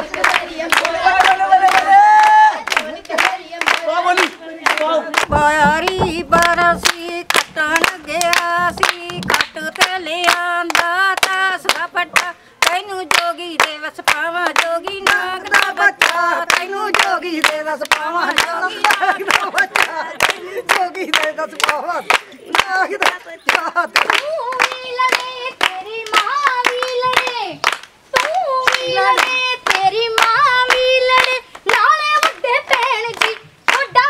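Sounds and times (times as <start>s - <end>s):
group singing: 0.0s - 34.0s
rhythmic hand-clapping: 0.0s - 34.0s.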